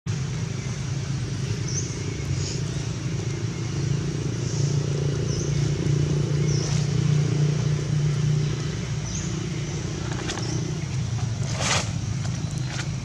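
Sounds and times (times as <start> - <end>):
engine humming: 0.1 - 13.0.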